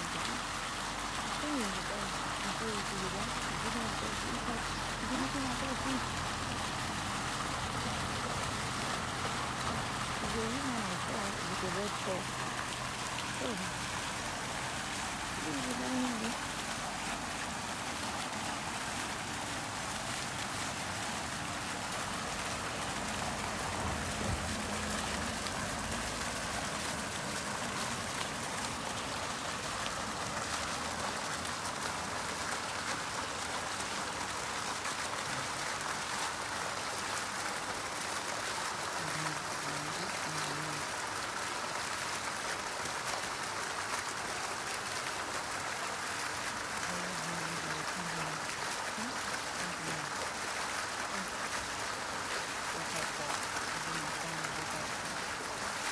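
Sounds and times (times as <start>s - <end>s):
fountain water splashing: 0.0s - 55.9s.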